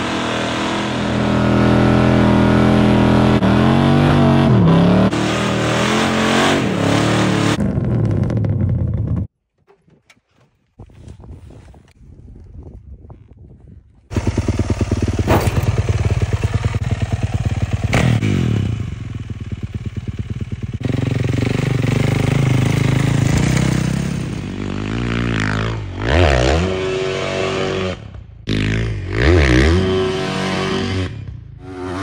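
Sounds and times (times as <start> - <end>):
dirt bike engine revving: 0.0 - 9.3, 14.1 - 32.0.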